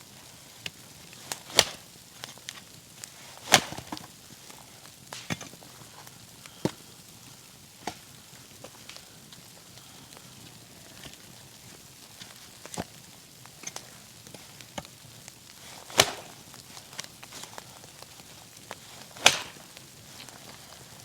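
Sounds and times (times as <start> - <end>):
faint steady hiss: 0.0 - 21.0
wood cracking and snapping: 0.1 - 6.9, 7.7 - 21.0.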